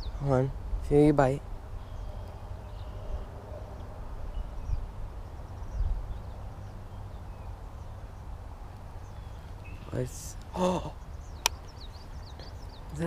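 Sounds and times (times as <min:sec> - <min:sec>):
wind rumble on microphone: 0:00.0 - 0:13.0
faint bird chirps: 0:01.8 - 0:08.3, 0:09.0 - 0:13.0.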